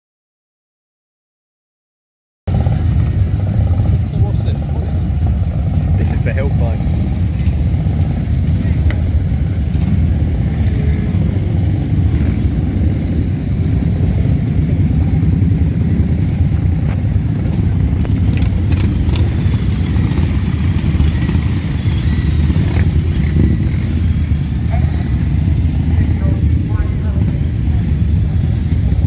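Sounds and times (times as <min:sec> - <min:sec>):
motorcycle engine rumble: 0:02.5 - 0:29.0.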